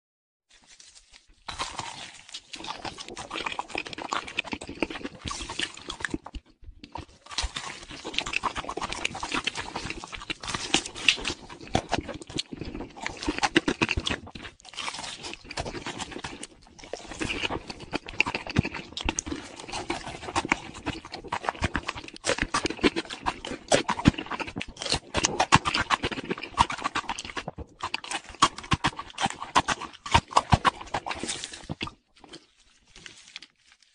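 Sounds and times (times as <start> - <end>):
crunchy food being chewed: 0.5 - 33.9.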